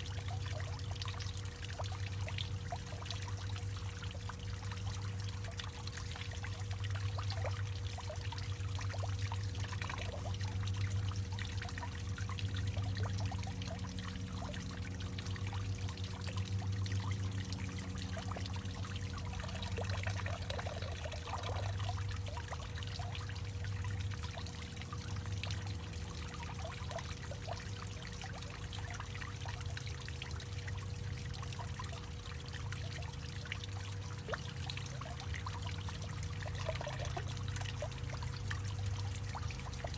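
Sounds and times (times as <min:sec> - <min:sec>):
low hollow hum: 0:00.0 - 0:39.9
water trickling and dripping: 0:00.0 - 0:39.9.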